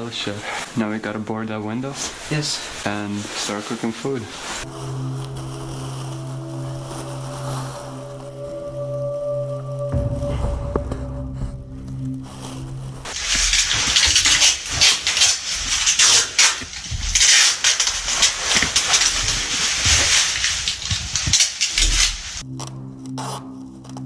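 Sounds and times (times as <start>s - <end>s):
plastic sheeting crinkling: 0.0s - 10.7s, 11.5s - 22.7s.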